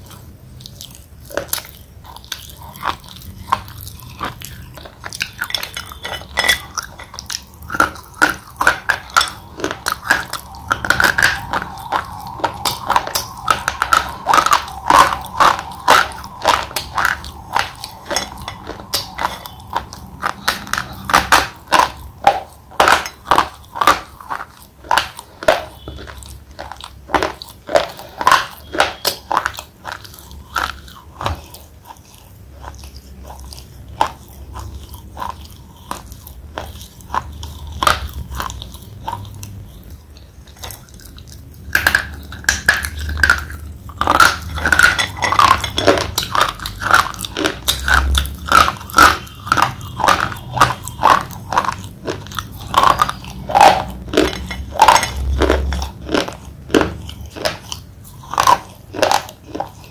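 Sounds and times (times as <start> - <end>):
slate pencil being chewed: 0.0 - 59.9.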